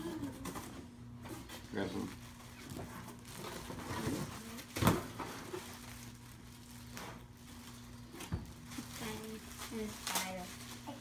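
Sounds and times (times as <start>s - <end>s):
packaging handling noise: 1.6s - 11.0s.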